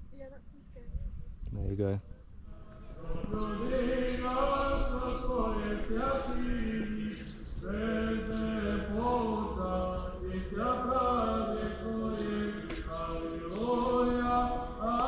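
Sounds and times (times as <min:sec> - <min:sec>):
men chanting in held notes: 0:02.4 - 0:15.0.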